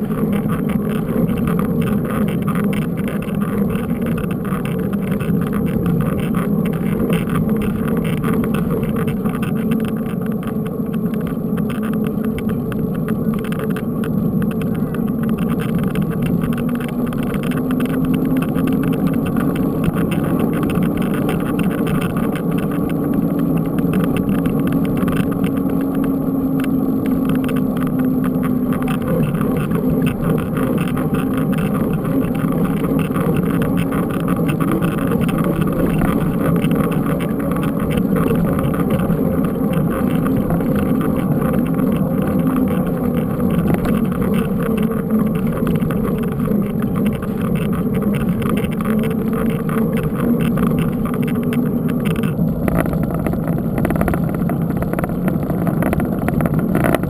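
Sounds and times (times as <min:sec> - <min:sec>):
bike tyres humming on asphalt: 0:00.0 - 0:57.0
wind rushing over camera: 0:00.0 - 0:57.0.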